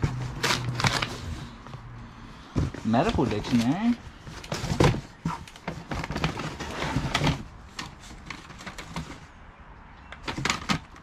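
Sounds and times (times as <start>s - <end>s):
books knocking and scraping in box: 0.0s - 1.8s, 2.4s - 9.3s, 10.2s - 11.0s.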